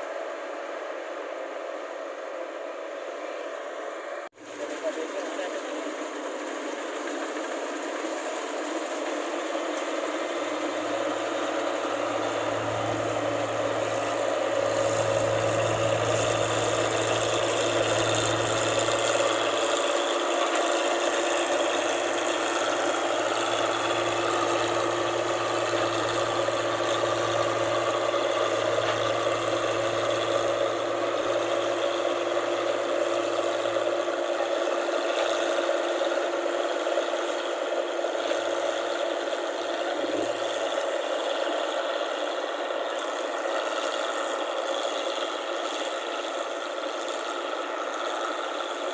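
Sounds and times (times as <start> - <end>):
combine harvester rattling: 4.4 - 48.9.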